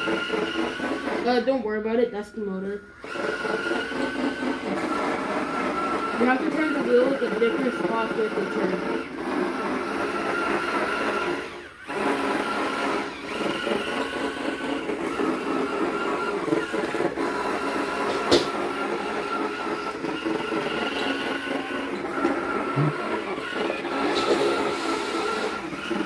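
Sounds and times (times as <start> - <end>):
small electric motors running: 0.0 - 1.6, 3.0 - 26.0.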